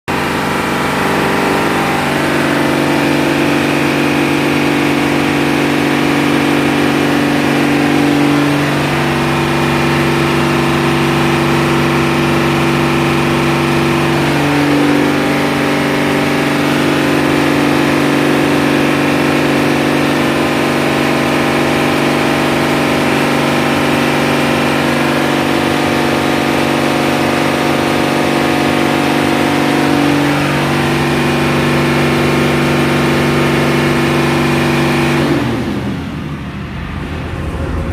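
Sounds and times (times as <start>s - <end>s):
diesel pump engine running: 0.0s - 37.9s.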